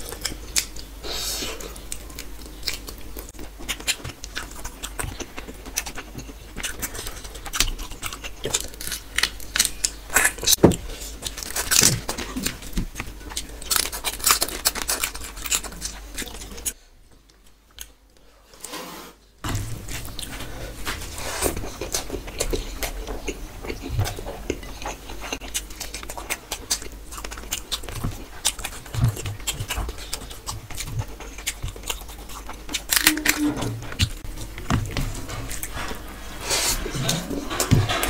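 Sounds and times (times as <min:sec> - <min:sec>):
chewing and crunching: 0:00.0 - 0:18.0, 0:19.5 - 0:38.0.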